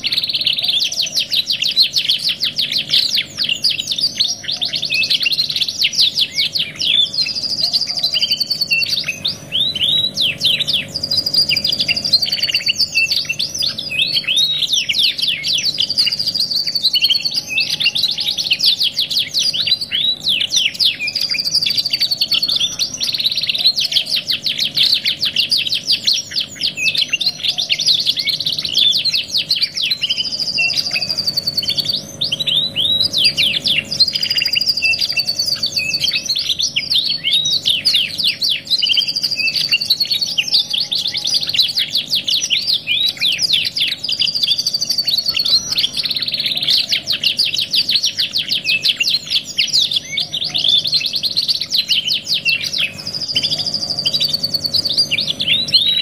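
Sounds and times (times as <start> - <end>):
canaries singing: 0.0 - 56.0.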